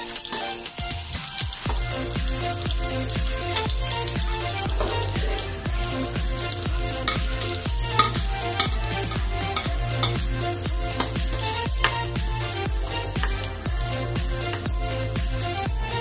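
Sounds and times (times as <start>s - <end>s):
oil sizzling in a wok: 0.0s - 13.6s
background music with steady beat: 0.0s - 16.0s.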